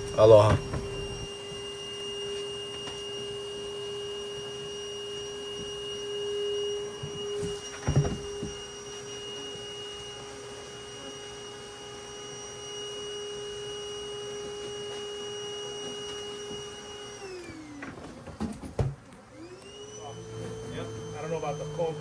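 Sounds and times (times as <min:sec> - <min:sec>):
vacuum motor whining: 0:00.0 - 0:22.0.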